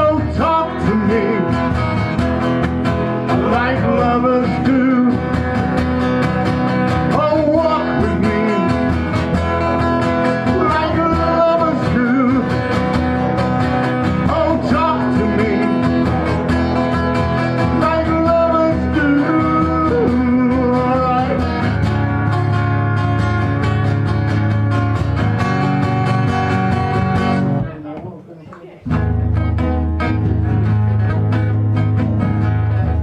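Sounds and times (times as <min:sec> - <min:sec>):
strummed guitar chords: 0:00.0 - 0:28.0, 0:28.8 - 0:33.0
acoustic guitar lead melody: 0:00.0 - 0:33.0.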